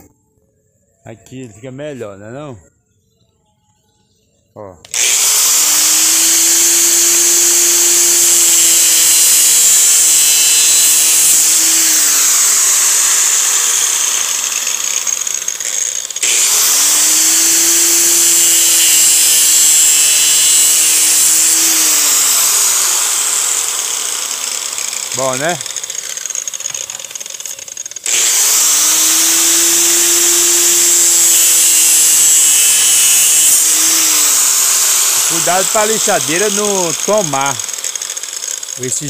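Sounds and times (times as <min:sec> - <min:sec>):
angle grinder cutting plastic pipe: 0:04.8 - 0:39.0.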